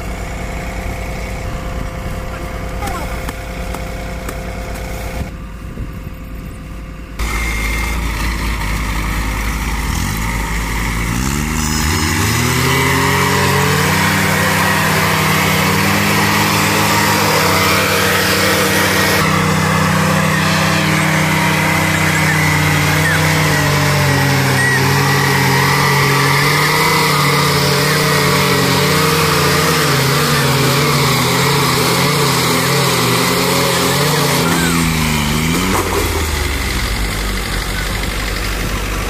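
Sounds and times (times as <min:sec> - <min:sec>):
heavy diesel engines under load: 0:00.0 - 0:39.0.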